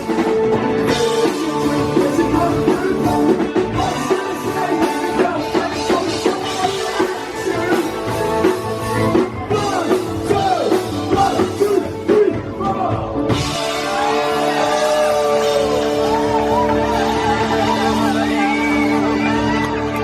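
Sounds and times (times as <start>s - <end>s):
person singing: 0.0s - 19.8s
drum kit: 0.0s - 20.0s
live rock band: 0.0s - 20.0s.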